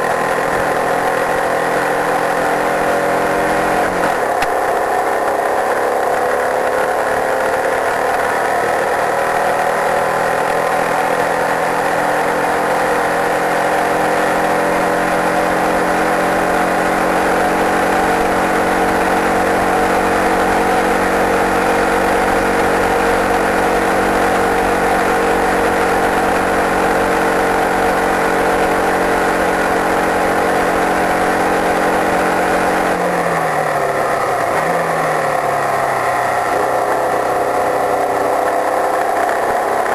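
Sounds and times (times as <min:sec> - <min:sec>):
racing car engine at speed: 0:00.0 - 0:39.9.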